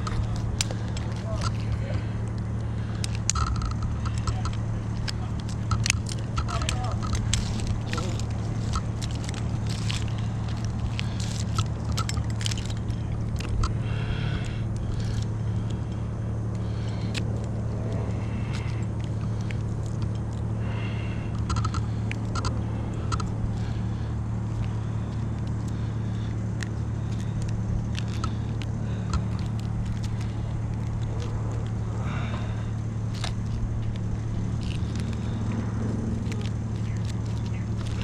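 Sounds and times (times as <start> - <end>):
climbing gear clicking against tree: 0.0 - 38.0
engine idling: 0.0 - 38.0.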